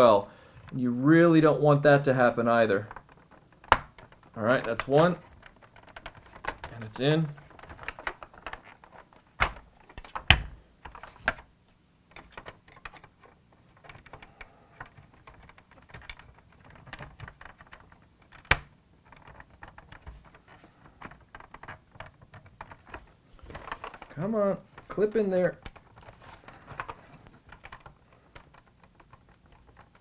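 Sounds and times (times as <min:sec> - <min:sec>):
sharp plastic snaps: 0:02.8 - 0:11.5, 0:12.1 - 0:30.0.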